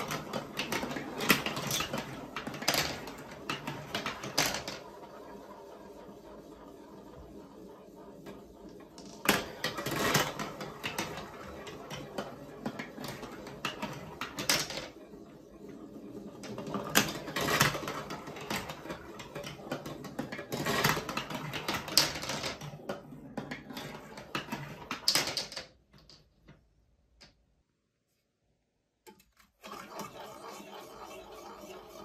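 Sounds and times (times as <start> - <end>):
marbles rattling through marble run: 0.0 - 26.2.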